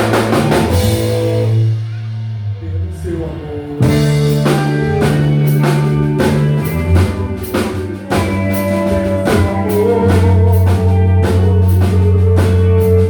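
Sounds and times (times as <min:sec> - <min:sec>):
drum hits: 0:00.0 - 0:02.4, 0:03.8 - 0:13.0
live band playing: 0:00.0 - 0:13.0.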